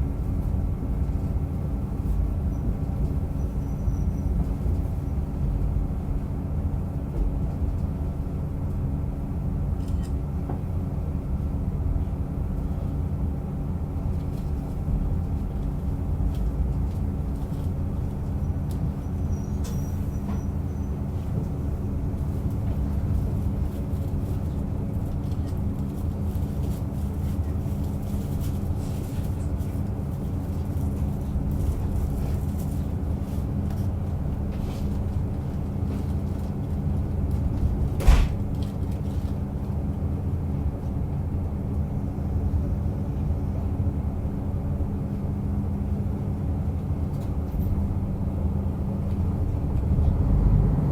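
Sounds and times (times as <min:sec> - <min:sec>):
railcar engine drone: 0:00.0 - 0:50.9.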